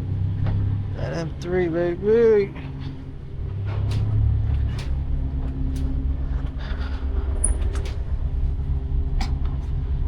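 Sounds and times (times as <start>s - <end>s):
faint humming tones: 0.0s - 10.0s
low engine rumble: 0.0s - 10.0s.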